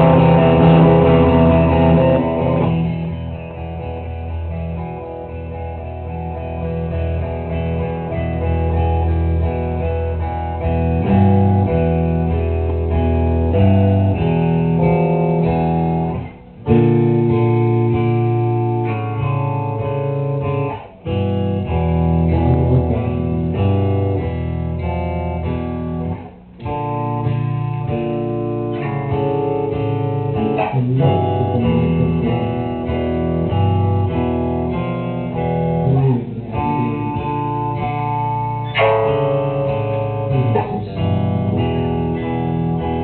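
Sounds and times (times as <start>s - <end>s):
live rock band music: 0.0s - 43.0s.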